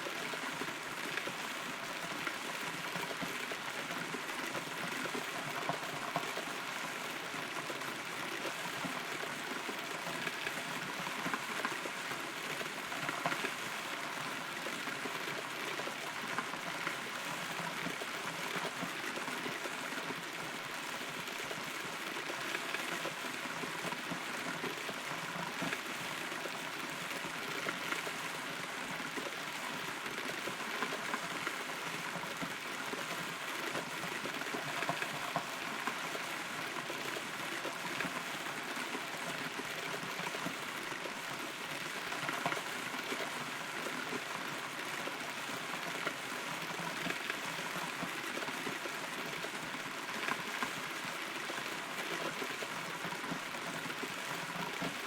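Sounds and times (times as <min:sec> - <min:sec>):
steady rain on hollow tree: 0:00.0 - 0:55.0.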